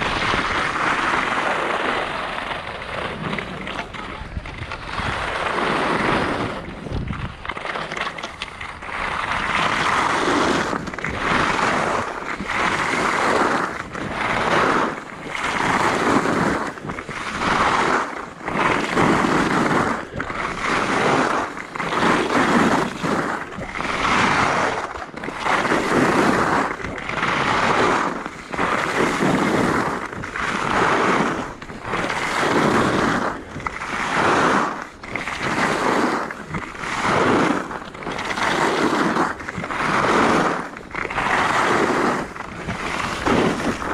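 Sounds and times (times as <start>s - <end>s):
ski edges scraping snow: 0.0s - 43.9s.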